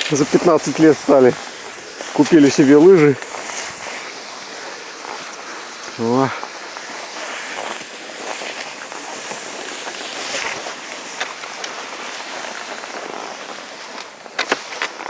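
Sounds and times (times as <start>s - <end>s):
skis swishing over snow: 0.0s - 15.0s.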